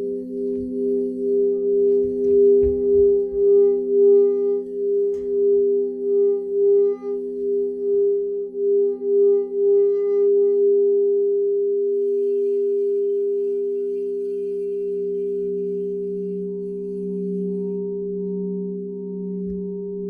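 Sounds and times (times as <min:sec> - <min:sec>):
singing bowls ringing: 0:00.0 - 0:20.0.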